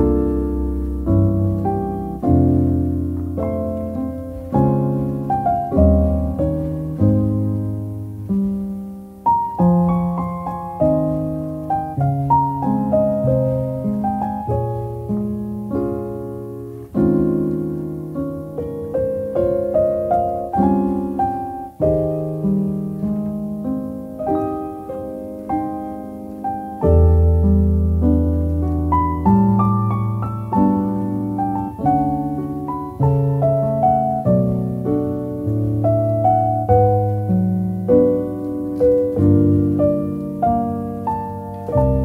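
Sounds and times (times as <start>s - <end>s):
solo piano music: 0.0s - 42.0s.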